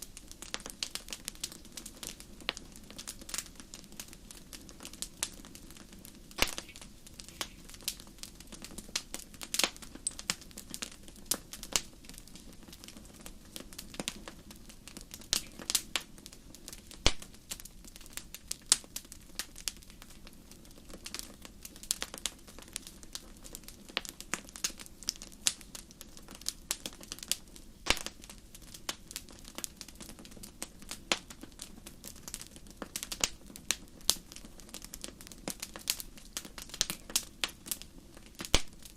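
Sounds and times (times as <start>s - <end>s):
fire snaps and pops: 0.0s - 38.9s.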